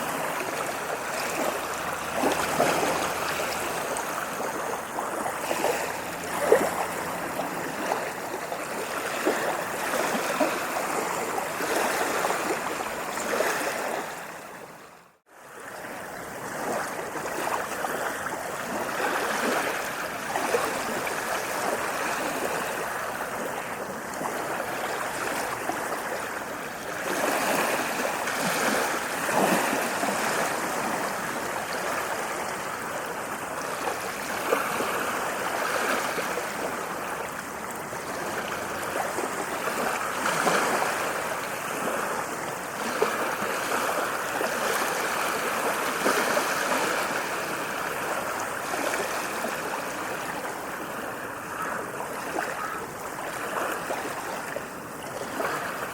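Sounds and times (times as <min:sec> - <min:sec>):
ocean waves washing on shore: 0:00.0 - 0:55.9.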